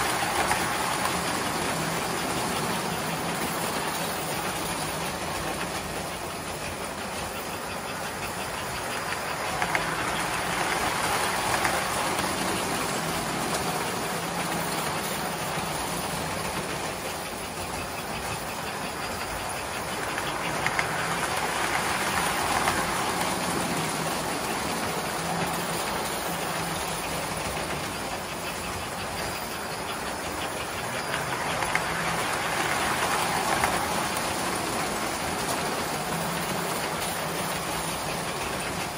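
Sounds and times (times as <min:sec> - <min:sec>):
toy trains clattering on metal track: 0:00.0 - 0:38.9.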